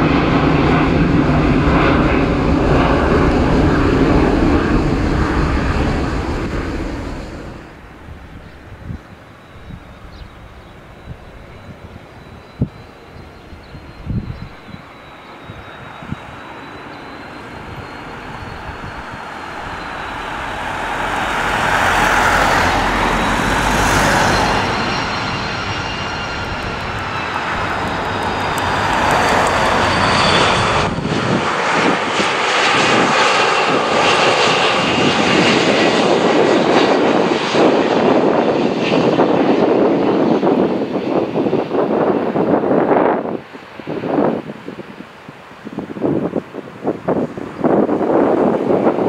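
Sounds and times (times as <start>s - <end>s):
airliner engines roaring with whine: 0.0s - 49.0s.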